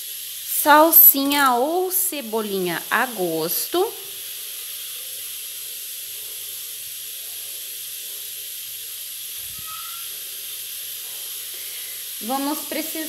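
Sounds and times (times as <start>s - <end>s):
pressure cooker hissing: 0.0s - 13.0s.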